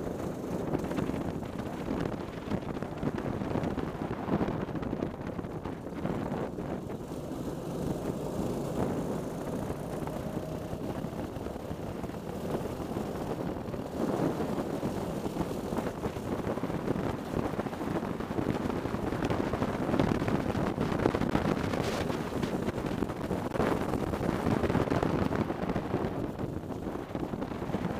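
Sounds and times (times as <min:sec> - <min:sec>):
kart engine running: 0:00.0 - 0:27.9
wind buffeting microphone: 0:00.0 - 0:27.9.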